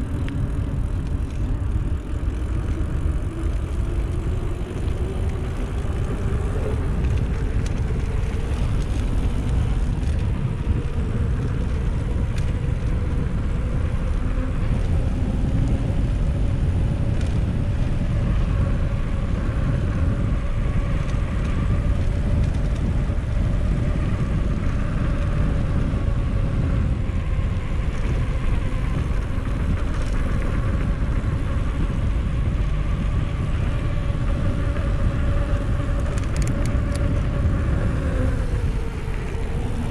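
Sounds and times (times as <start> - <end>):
bike wheels whirring: 0.0 - 39.9
wind on microphone: 0.0 - 39.9.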